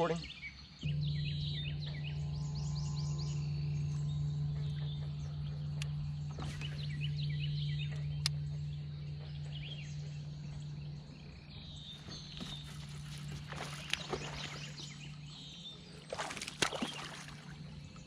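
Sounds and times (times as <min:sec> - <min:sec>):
bird chirps: 0:00.0 - 0:18.0
steady low hum: 0:00.0 - 0:18.0.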